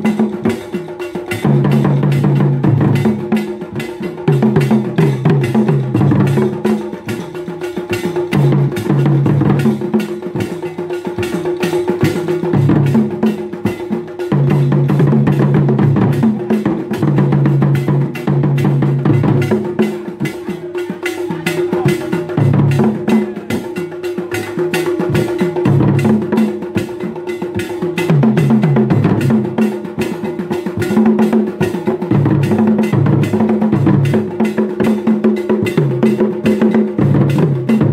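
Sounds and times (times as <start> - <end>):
tall standing drums: 0.0 - 37.9.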